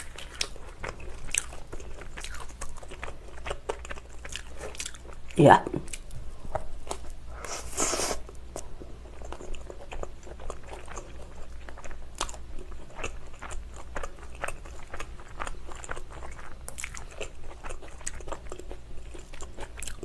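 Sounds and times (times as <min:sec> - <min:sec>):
crunchy chewing of pizza crust: 0:00.0 - 0:20.0.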